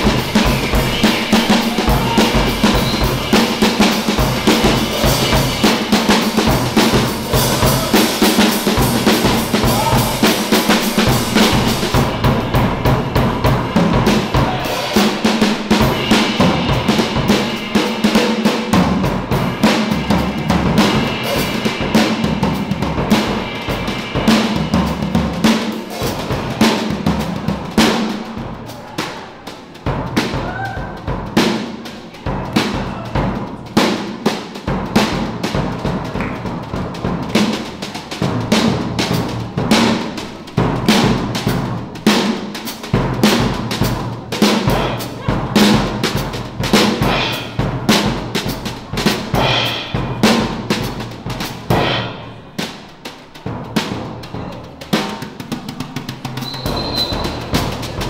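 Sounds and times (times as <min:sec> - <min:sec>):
cymbals washing: 0:00.0 - 0:58.0
drum kit played with rods: 0:00.0 - 0:58.0.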